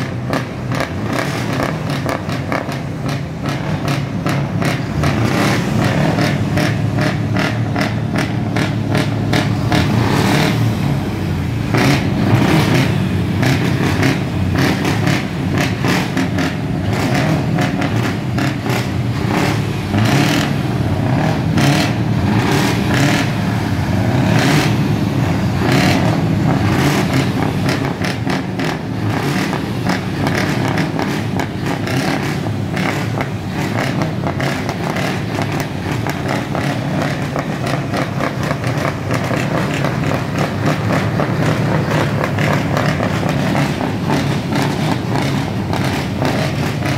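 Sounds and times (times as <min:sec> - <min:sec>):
truck diesel engine revving: 0:00.0 - 0:46.9.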